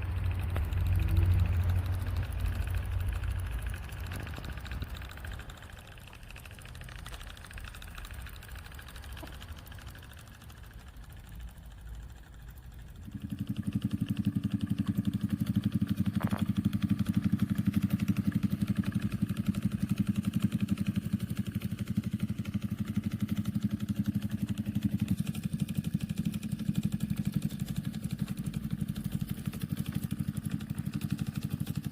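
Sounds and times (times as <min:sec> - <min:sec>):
solenoid engine clattering: 0:00.0 - 0:31.9.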